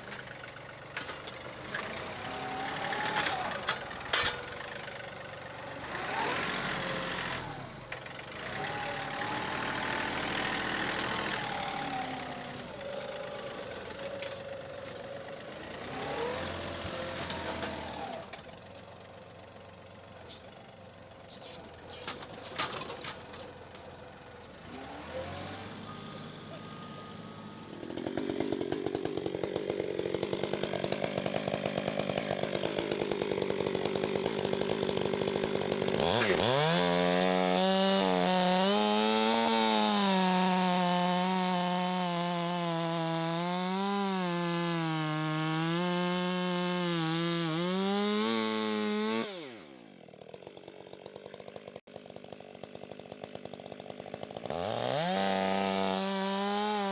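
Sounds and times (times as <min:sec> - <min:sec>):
chainsaw cutting log: 0:00.0 - 0:18.6, 0:21.3 - 0:26.3, 0:27.7 - 0:56.9.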